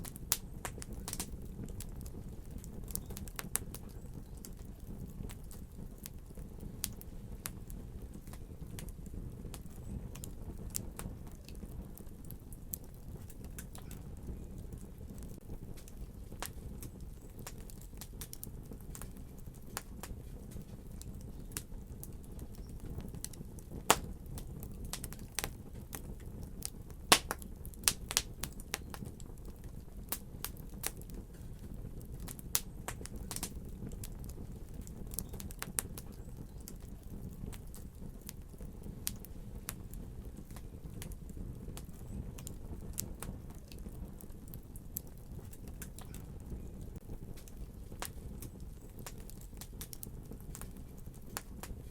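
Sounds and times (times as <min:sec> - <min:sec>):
fire popping and snapping: 0:00.0 - 0:51.9
low rumble of flames: 0:00.0 - 0:51.9.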